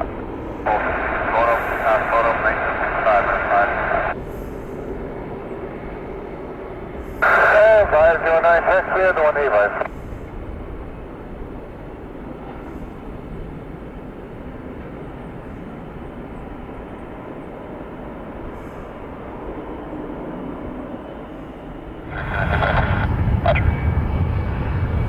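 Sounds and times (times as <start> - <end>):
distant jet aircraft rumble: 0.0 - 25.0.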